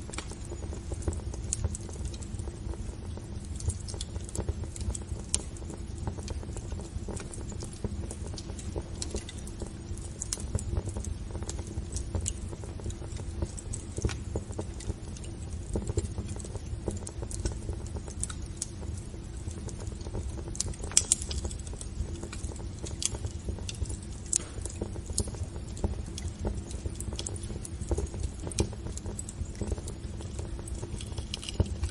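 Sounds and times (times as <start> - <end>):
low fire rumble: 0.0 - 31.9
wood fire crackling and popping: 0.0 - 31.9.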